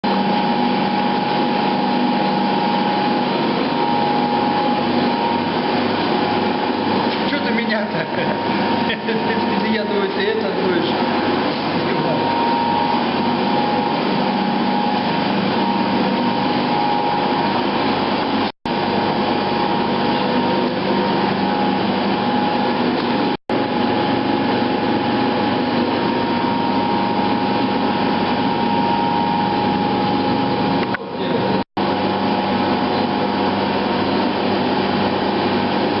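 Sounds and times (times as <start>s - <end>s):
electric fan humming and whining: 0.0s - 36.0s.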